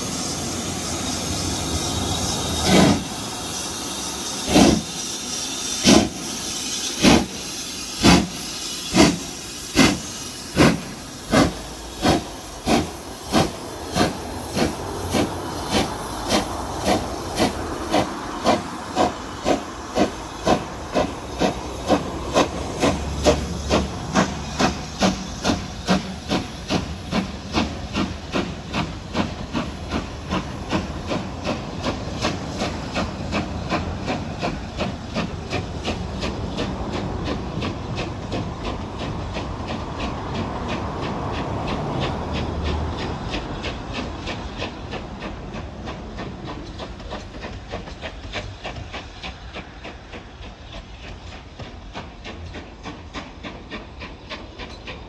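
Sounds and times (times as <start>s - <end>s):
hiss of steam: 0.0s - 55.0s
steam locomotive exhaust chuffs: 0.0s - 55.0s.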